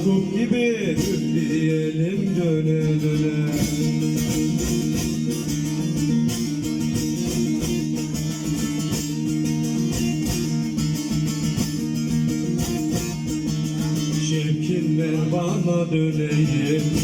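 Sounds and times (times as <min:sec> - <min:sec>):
lute strumming: 0:00.0 - 0:17.0.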